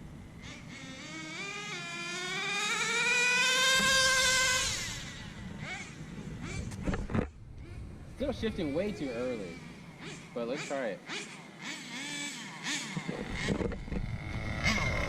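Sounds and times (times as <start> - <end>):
model car engine whining: 0.0 - 15.0.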